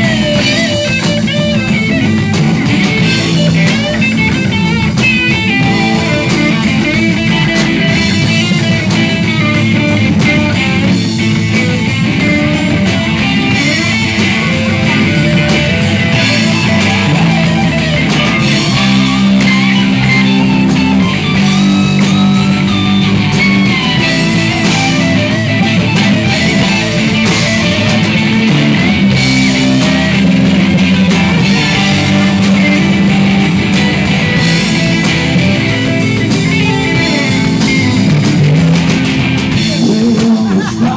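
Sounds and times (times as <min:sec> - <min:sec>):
electric guitar: 0:00.0 - 0:40.9
live rock band playing: 0:00.0 - 0:40.9.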